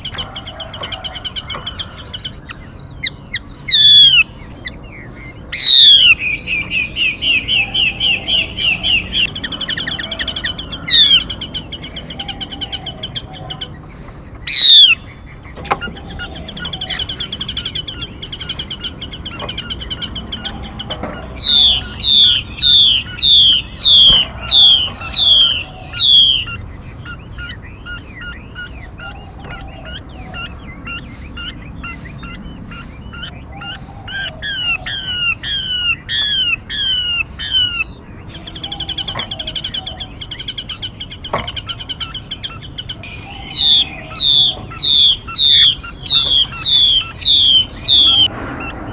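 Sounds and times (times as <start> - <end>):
down-slurred bird whistle: 0.0 - 13.7, 14.4 - 15.1, 15.8 - 48.9
bird trill: 0.0 - 48.9
descending bird notes: 0.0 - 48.9
songbird calls: 0.0 - 48.9.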